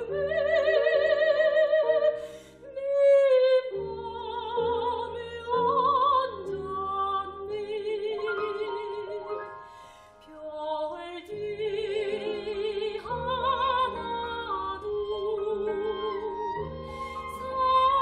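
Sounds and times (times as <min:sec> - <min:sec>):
piano notes: 0:00.0 - 0:18.0
soprano singing: 0:00.0 - 0:18.0
violin: 0:00.0 - 0:18.0.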